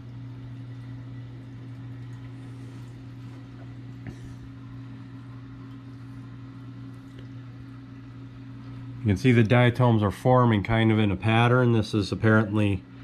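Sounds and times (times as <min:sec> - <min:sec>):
aquarium pump hum: 0:00.0 - 0:13.0.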